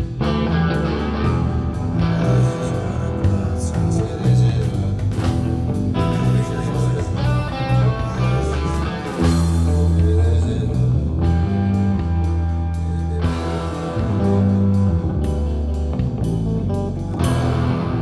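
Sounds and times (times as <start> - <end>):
electric guitar: 0.0 - 18.0
heavy bass line: 0.0 - 18.0
rock music: 0.0 - 18.0.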